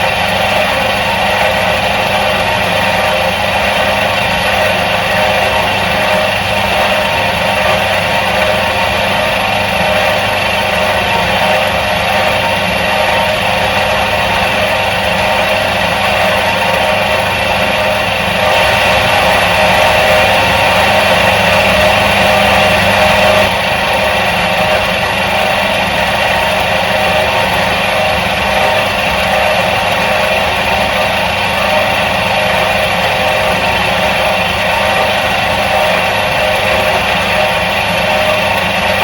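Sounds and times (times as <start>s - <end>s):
washing machine motor humming: 0.0s - 39.0s.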